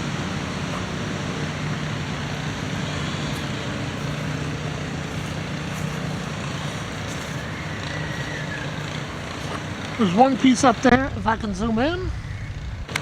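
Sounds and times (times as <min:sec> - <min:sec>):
low mechanical hum: 0:00.0 - 0:13.0
outdoor noise: 0:00.0 - 0:13.0.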